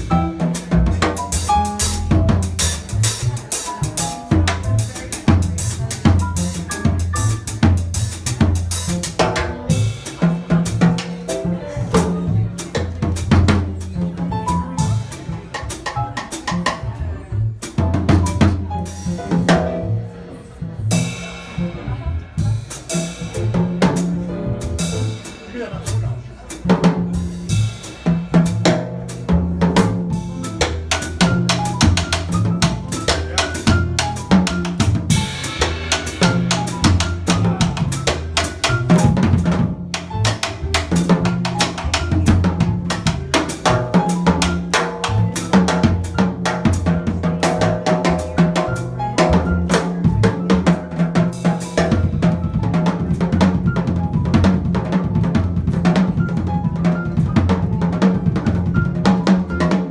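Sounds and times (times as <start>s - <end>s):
jazz drum kit: 0.0s - 59.9s
piano: 0.0s - 59.9s
upright bass line: 0.0s - 59.9s.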